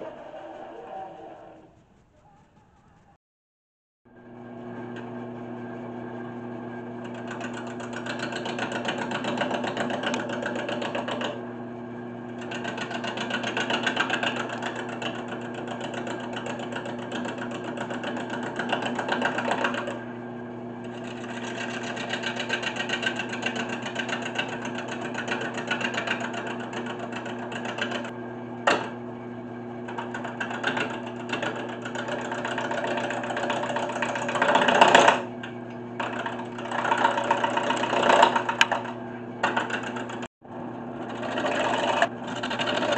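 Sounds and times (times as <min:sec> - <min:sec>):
lathe motor hum: 0:00.0 - 0:01.8, 0:04.1 - 0:42.9
gouge cutting spinning wood: 0:06.5 - 0:29.0, 0:29.8 - 0:42.9.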